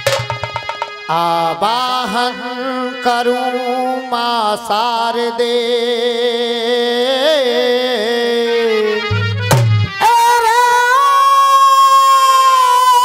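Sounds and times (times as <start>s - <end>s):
person singing folk song: 1.0s - 13.0s.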